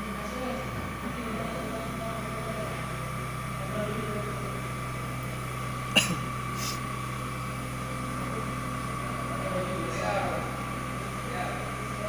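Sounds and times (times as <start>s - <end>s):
milling machine hum and whine: 0.0s - 12.0s.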